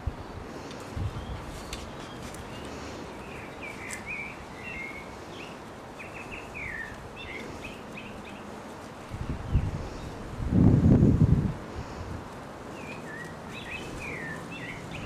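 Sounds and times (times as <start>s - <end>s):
outdoor background noise: 0.0s - 15.0s
small birds chirping: 0.6s - 10.4s, 11.7s - 15.0s.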